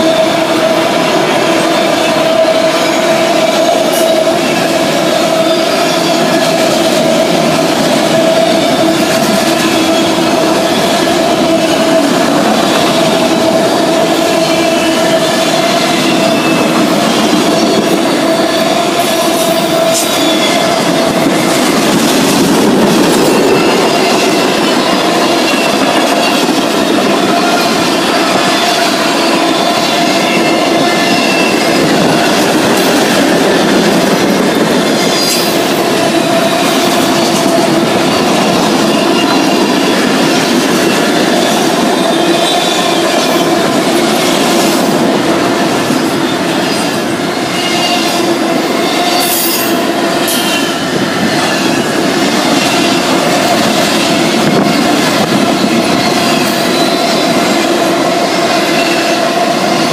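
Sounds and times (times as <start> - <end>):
freight train wheels rumbling: 0.0 - 59.9
high-pitched wheel squeal: 0.0 - 59.9.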